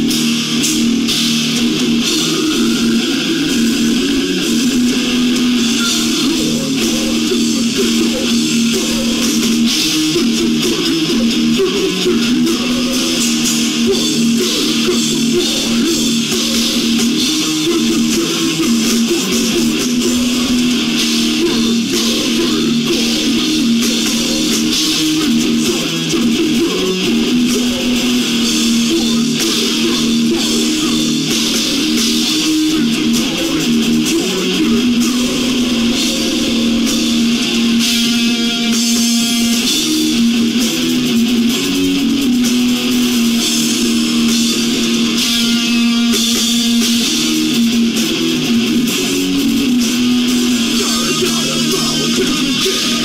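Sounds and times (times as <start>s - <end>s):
heavy metal band playing: 0.0s - 53.0s.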